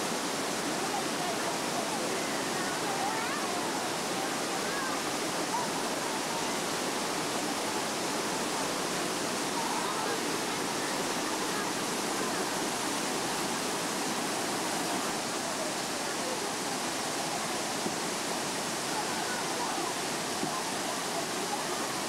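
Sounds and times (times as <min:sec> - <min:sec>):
faint voices: 0:00.0 - 0:22.0
waterfall rushing over rock: 0:00.0 - 0:22.0.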